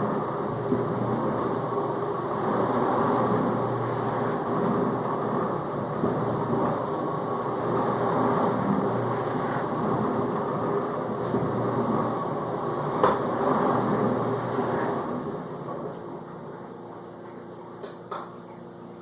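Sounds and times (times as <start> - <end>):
pump low hum: 0.0 - 19.0.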